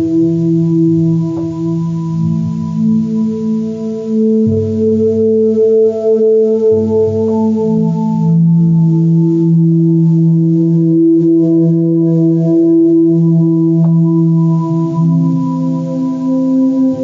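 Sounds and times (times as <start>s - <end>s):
slow instrumental chord music: 0.0s - 17.0s.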